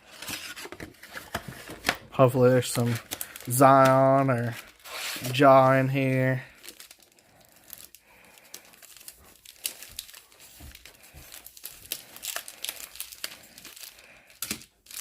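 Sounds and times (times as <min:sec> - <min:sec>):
plastic packaging crinkling: 0:00.1 - 0:15.0
plastic tearing: 0:02.6 - 0:15.0.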